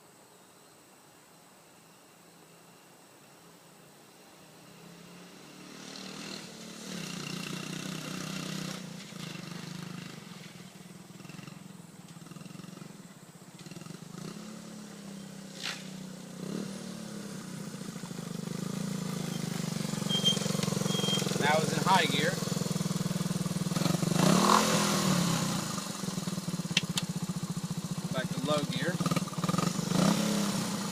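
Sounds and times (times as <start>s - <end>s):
small motorcycle engine running: 5.2s - 30.9s.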